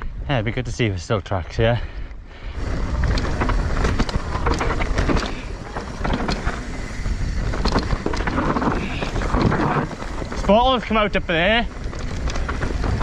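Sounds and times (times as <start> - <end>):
bike tyres rolling on rough ground: 2.3 - 13.0
wind buffeting microphone: 2.4 - 13.0
bike rattling clicks: 2.6 - 13.0.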